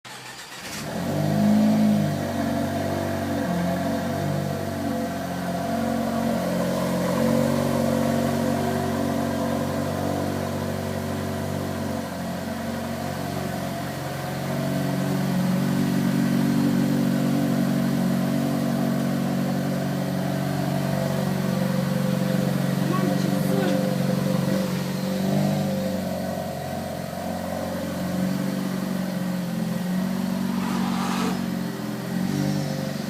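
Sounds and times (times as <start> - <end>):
car engine exhaust note: 0.9 - 33.0.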